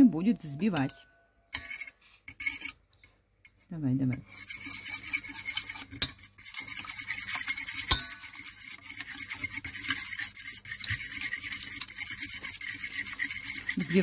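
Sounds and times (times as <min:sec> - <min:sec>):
fork whisking eggs in a bowl: 0:00.7 - 0:14.0.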